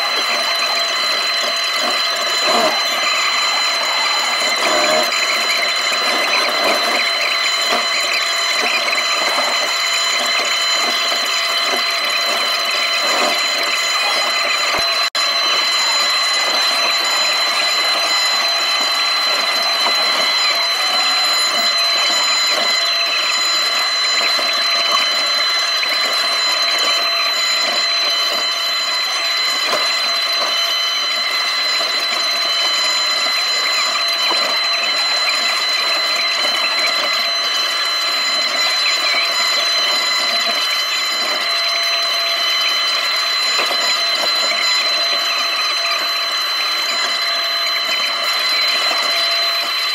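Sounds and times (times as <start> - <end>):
excavator machinery running: 0.0 - 42.0
hydraulic whine: 0.0 - 49.9.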